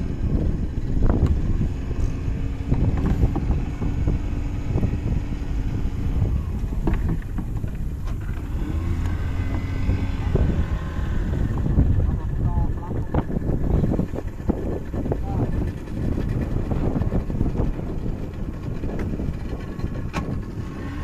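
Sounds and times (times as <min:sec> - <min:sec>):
outboard motor running: 0:00.0 - 0:21.0
wind on microphone: 0:00.0 - 0:21.0.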